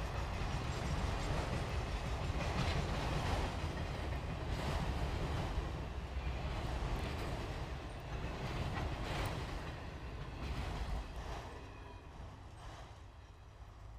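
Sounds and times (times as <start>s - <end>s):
freight train rumbling: 0.0s - 13.9s.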